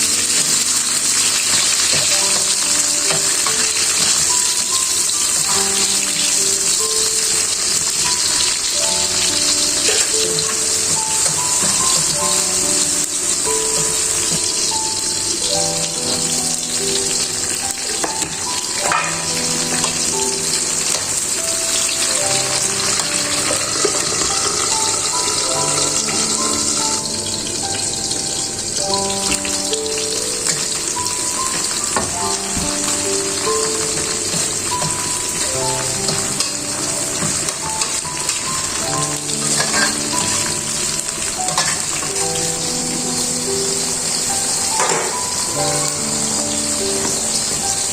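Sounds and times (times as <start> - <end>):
food sizzling in pan: 0.0 - 47.9
soft background music: 0.0 - 47.9.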